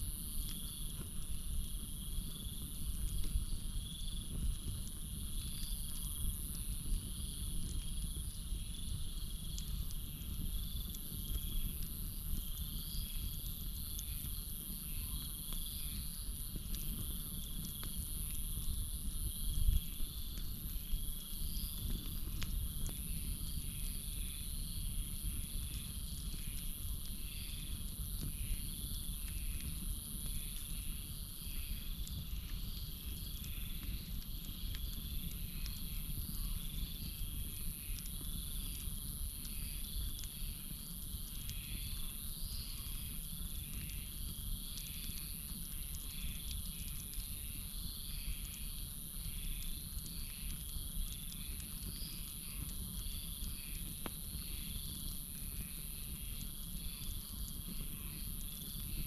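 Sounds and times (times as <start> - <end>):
campfire crackling: 0.0 - 59.0
insects droning: 0.0 - 59.0.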